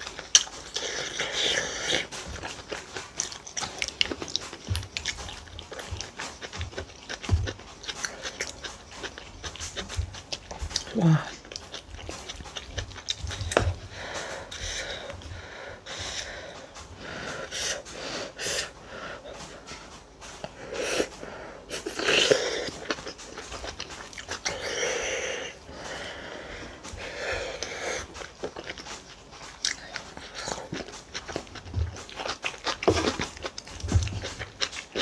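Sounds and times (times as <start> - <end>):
chewing and wet mouth noises: 0.0 - 35.0.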